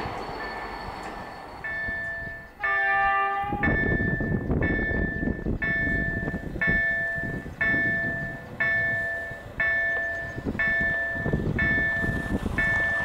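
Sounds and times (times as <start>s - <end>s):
railway warning bell ringing: 0.0s - 13.0s.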